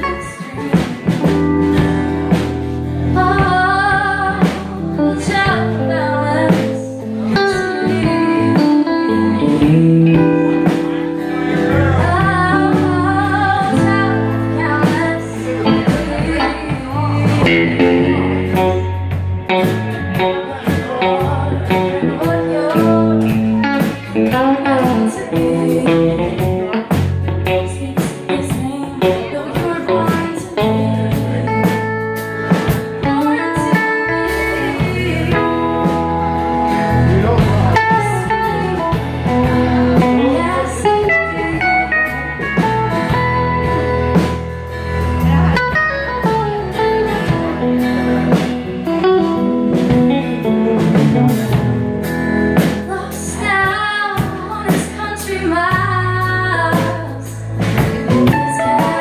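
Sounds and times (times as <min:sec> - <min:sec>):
woman singing: 0:00.0 - 0:44.4, 0:52.6 - 0:59.0
live band playing: 0:00.0 - 0:59.0.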